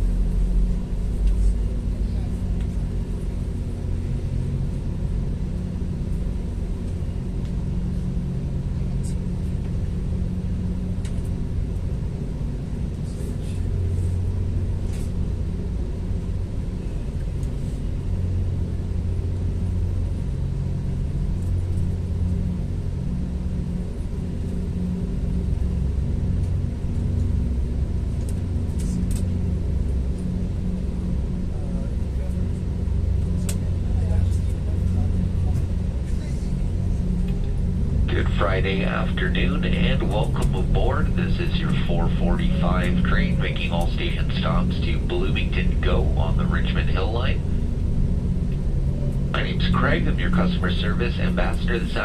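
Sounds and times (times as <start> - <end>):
train rumble and hum: 0.0 - 52.0.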